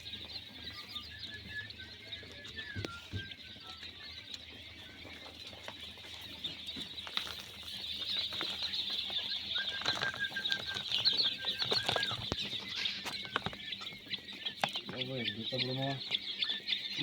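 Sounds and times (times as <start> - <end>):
quails chirping: 0.0 - 17.0.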